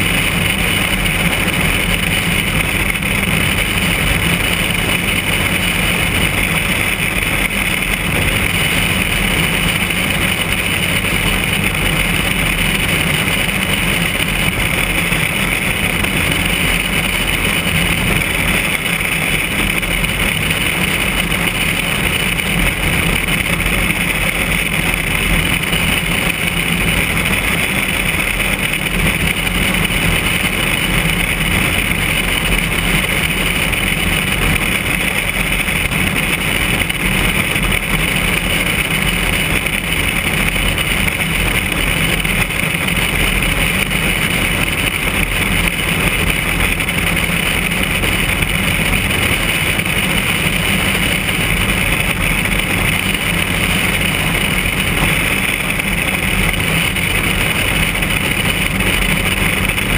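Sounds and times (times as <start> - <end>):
light airplane engine drone: 0.0 - 59.9.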